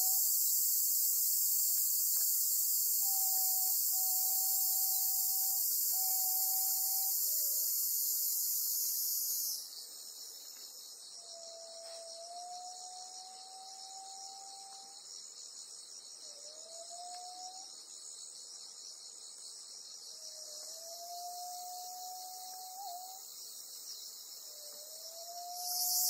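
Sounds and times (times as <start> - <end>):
cicadas buzzing: 0.0 - 16.6, 17.5 - 26.0
insect song of fast pulses: 0.0 - 26.0.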